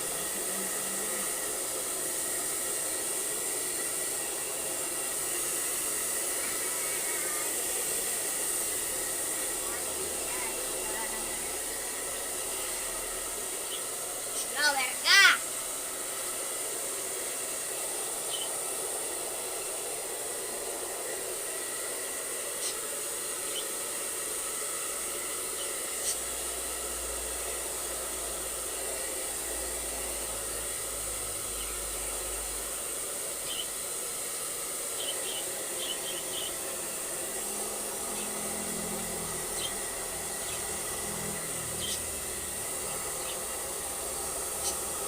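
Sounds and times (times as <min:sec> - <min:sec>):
pet blower dryer rushing air: 0:00.0 - 0:45.0.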